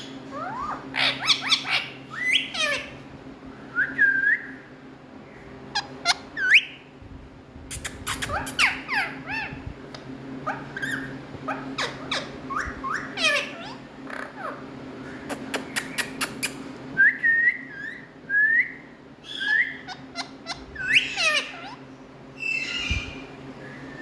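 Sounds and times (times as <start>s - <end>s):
parakeets calling: 0.0s - 3.5s, 4.6s - 7.0s, 7.7s - 16.8s, 19.2s - 24.0s.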